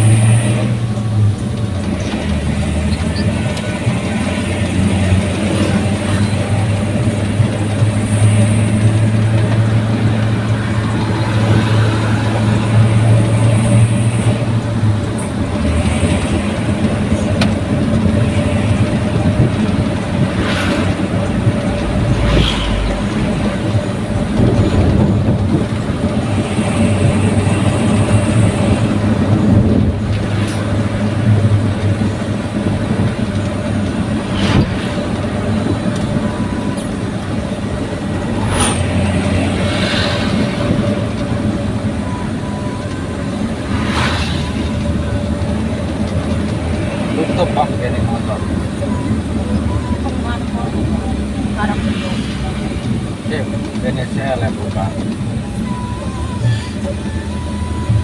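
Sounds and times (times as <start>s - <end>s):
pickup engine droning: 0.0s - 58.0s.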